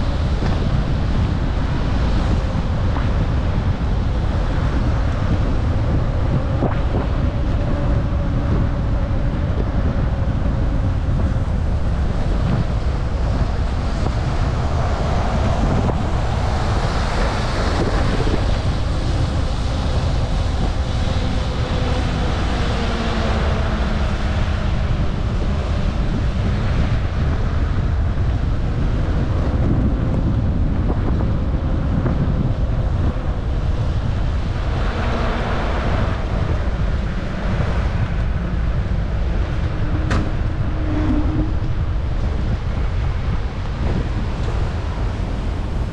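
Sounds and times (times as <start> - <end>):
road and traffic noise: 0.0 - 45.9
wind buffeting microphone: 0.0 - 45.9.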